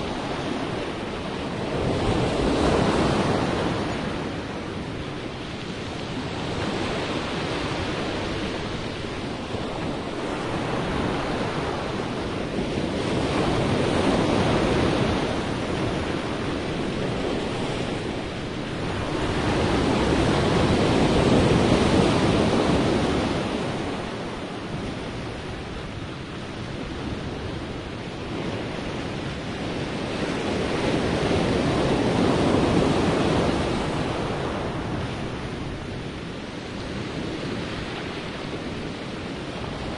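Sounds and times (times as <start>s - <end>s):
sea waves breaking on shore: 0.0s - 39.9s
wind noise: 0.0s - 39.9s.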